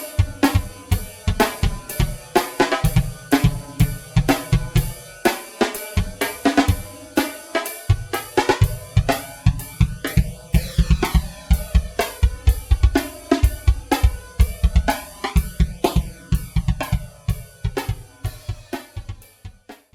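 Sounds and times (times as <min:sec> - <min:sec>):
drum kit drumroll: 0:00.0 - 0:19.9.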